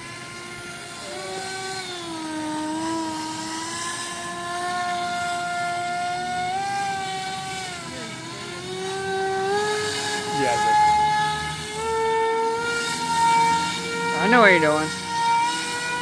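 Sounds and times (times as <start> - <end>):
model airboat engine whining: 0.0 - 16.0.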